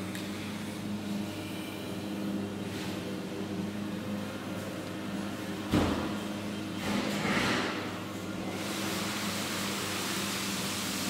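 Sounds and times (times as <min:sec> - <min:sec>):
diesel machinery droning: 0:00.0 - 0:11.0.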